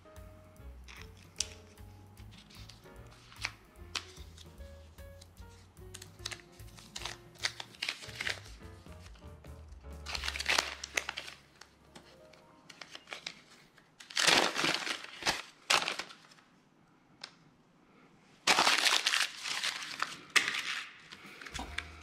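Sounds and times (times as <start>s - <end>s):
crinkling rustling handling: 0.9s - 9.2s, 10.0s - 16.5s, 18.4s - 22.0s.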